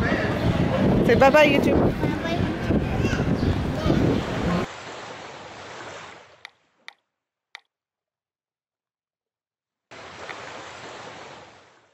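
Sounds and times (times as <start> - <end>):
outdoor background noise: 0.0 - 7.8, 9.9 - 11.9.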